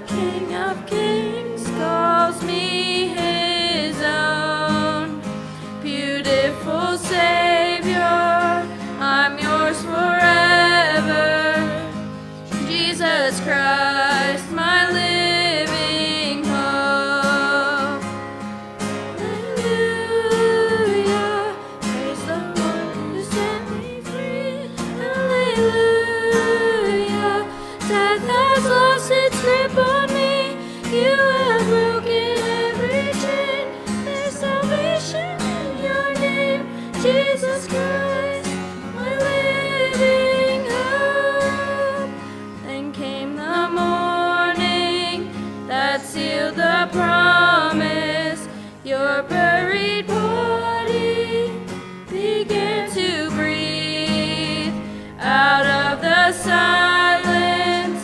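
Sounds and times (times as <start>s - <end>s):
person singing: 0.0s - 18.1s, 19.0s - 58.0s
acoustic guitar: 0.0s - 58.0s.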